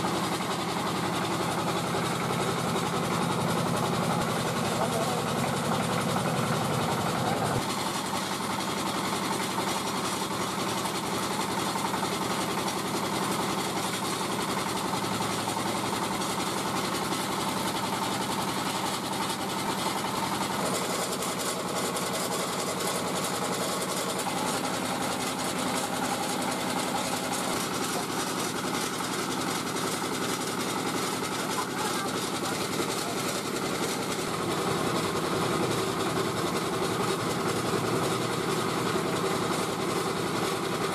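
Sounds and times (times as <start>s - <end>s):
puffed rice machine running: 0.0s - 40.9s.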